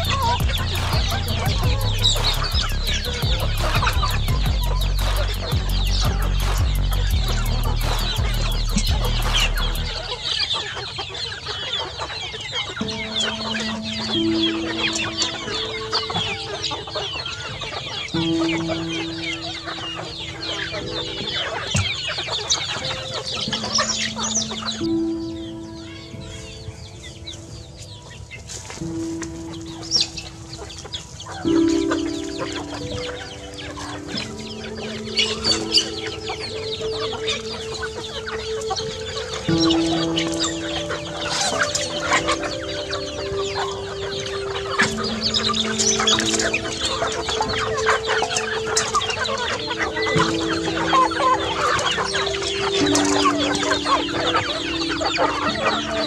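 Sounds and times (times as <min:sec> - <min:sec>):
chickens clucking: 0:00.0 - 0:56.0
music of long held notes: 0:00.0 - 0:56.0.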